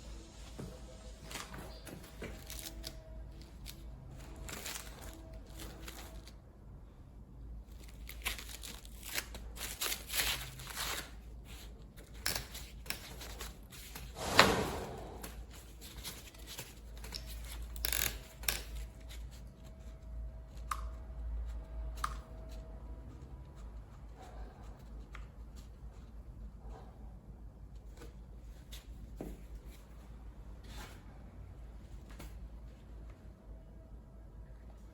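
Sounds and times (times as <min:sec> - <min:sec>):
handling rustling and scraping: 0:00.0 - 0:06.4, 0:07.7 - 0:33.4.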